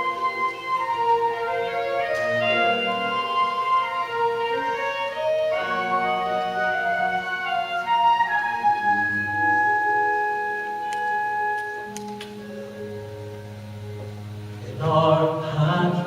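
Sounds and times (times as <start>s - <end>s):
woodwind and organ melody: 0.0s - 16.0s.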